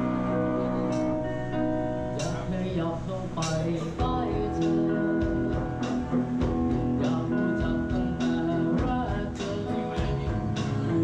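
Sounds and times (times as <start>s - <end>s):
bass guitar: 0.0s - 11.0s
drum kit: 0.0s - 11.0s
electric guitars: 0.0s - 11.0s
keyboard: 0.0s - 11.0s
young man singing: 0.0s - 11.0s.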